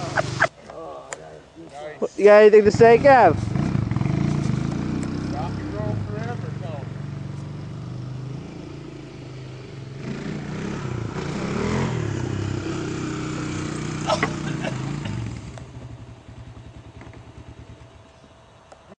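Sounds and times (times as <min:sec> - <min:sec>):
atv engine revving: 0:00.0 - 0:00.5, 0:02.4 - 0:18.0.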